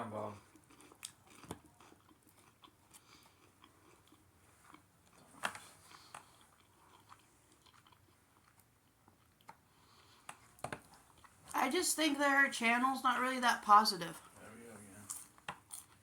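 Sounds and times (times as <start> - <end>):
faint chewing: 0.2 - 11.6, 14.2 - 16.0.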